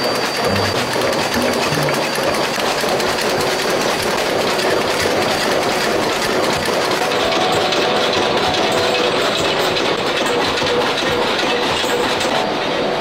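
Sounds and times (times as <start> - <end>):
metal parts rattling onto conveyor: 0.0 - 12.4
forging machinery clatter: 0.0 - 13.0.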